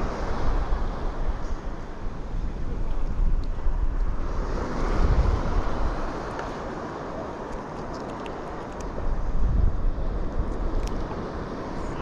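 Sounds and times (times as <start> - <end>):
sea surf rushing: 0.0 - 12.0
wind rumbling on microphone: 0.0 - 12.0.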